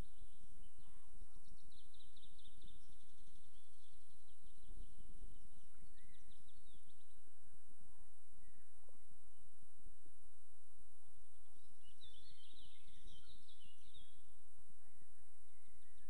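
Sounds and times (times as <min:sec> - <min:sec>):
songbirds singing: 0:00.0 - 0:09.5, 0:11.1 - 0:16.0.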